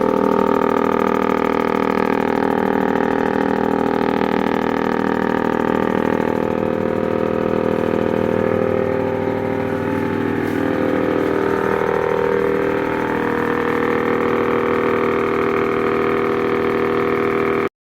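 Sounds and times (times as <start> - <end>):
chaff cutter machine hum: 0.0 - 17.7.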